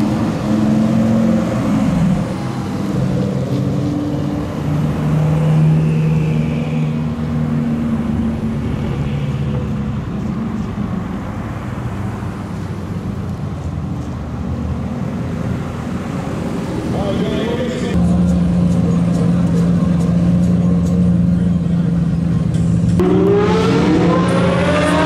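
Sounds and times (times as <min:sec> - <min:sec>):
car engines droning: 0:00.0 - 0:25.0.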